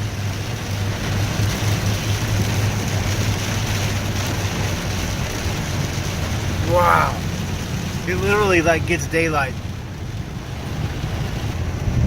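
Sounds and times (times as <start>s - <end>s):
road and storm noise: 0.0s - 12.0s.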